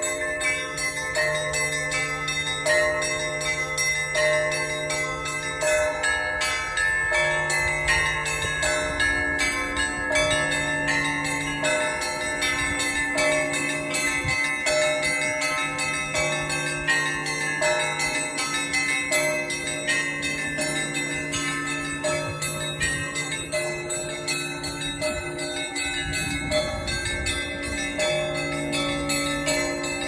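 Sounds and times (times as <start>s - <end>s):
deep church bell: 0.0s - 30.0s
small church bells ringing quickly: 0.0s - 30.0s.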